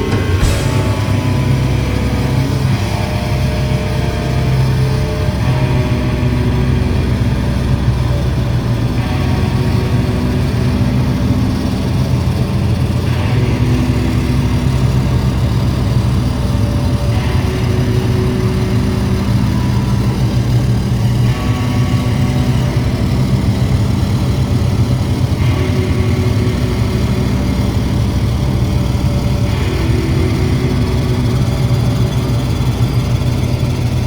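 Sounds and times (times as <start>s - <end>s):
distorted guitar and bass droning: 0.0s - 34.0s.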